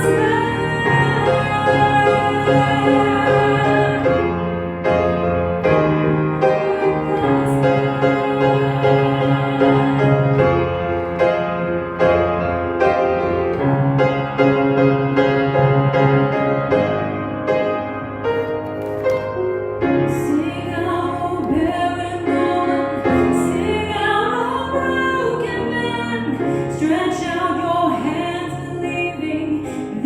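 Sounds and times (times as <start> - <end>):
piano playing worship song: 0.0 - 30.0.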